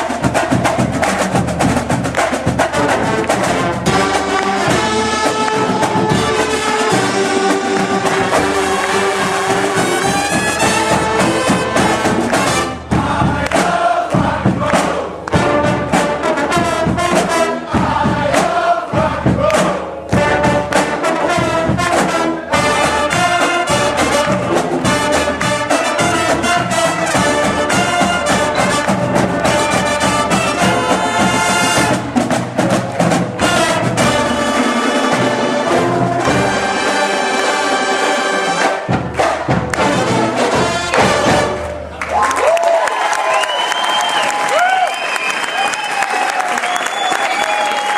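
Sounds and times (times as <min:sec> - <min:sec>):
steady drum beats: 0:00.0 - 0:42.2
marching band brass: 0:00.0 - 0:47.9.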